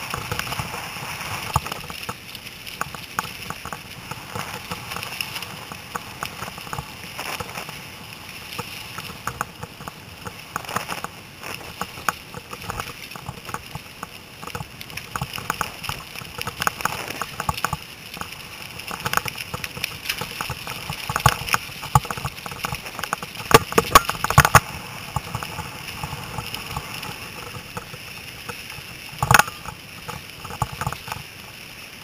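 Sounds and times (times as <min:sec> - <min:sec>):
mountain bike clattering on dirt: 0:00.0 - 0:31.6
steady hiss: 0:00.0 - 0:32.0.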